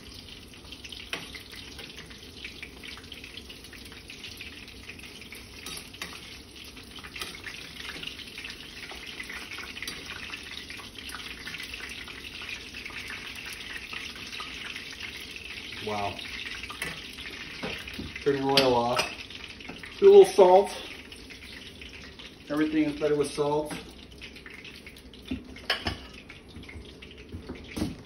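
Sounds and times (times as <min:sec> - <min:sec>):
oysters frying in hot oil: 0:00.0 - 0:28.0.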